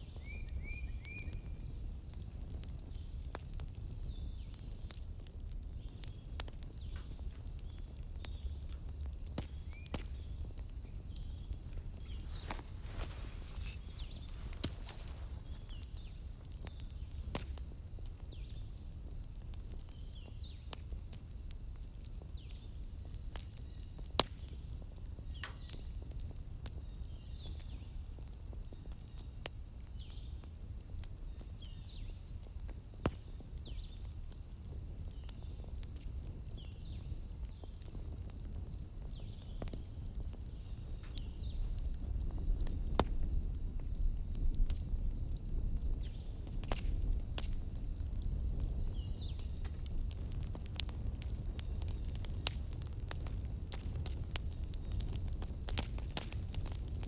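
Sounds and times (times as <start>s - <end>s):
wood fire crackling: 0.0s - 57.0s
fire pops: 1.0s - 31.7s, 32.3s - 57.0s.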